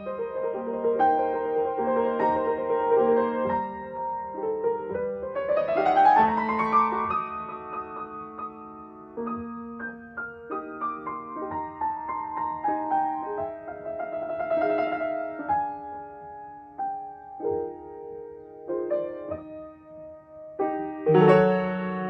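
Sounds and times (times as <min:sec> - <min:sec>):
classical grand piano piece: 0:00.0 - 0:22.0.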